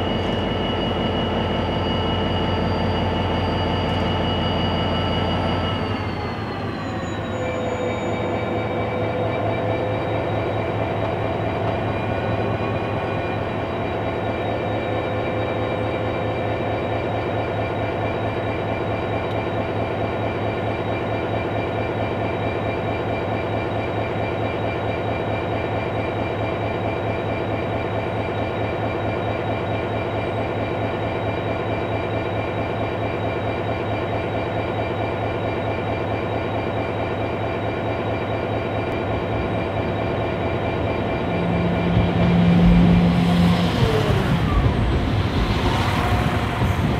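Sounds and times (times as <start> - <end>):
diesel locomotive engine running: 0.0 - 46.9.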